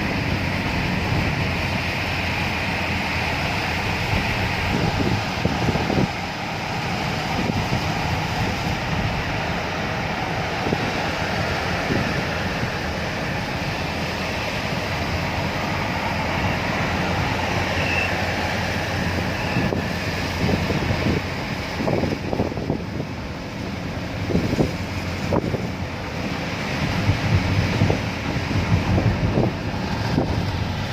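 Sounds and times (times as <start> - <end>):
rain falling: 0.0 - 30.9
tyres on wet road: 0.0 - 30.9.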